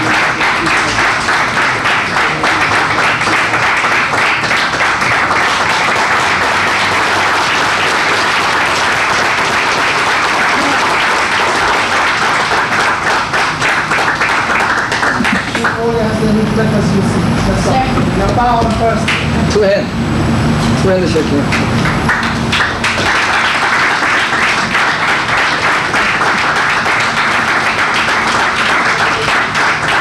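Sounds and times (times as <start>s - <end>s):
people applauding: 0.0s - 16.9s, 18.9s - 19.6s, 21.2s - 30.0s.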